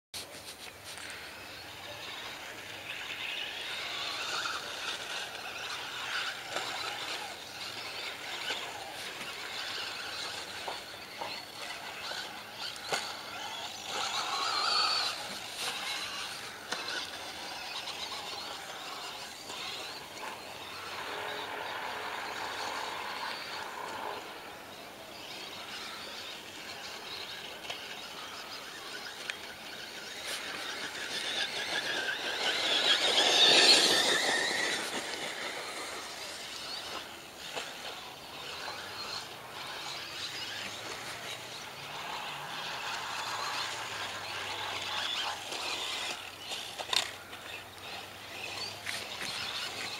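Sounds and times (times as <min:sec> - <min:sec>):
toy car electric motor whining: 0:00.6 - 0:49.9.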